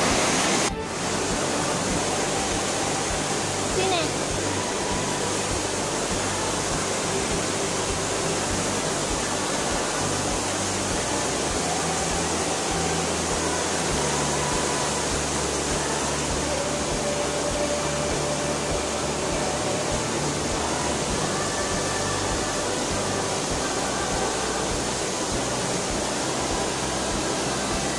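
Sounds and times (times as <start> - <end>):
water rushing in stream: 0.0 - 27.9.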